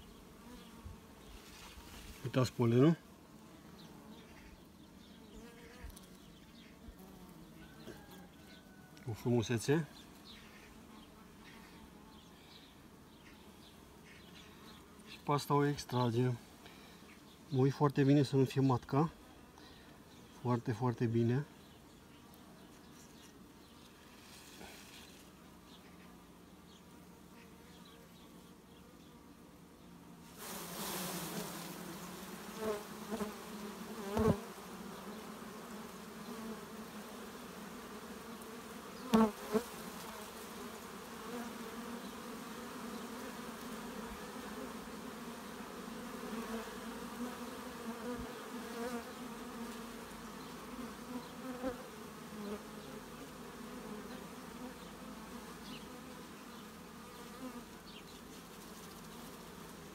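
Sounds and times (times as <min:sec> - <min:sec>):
bees buzzing: 0:00.0 - 0:17.5, 0:21.6 - 0:59.9.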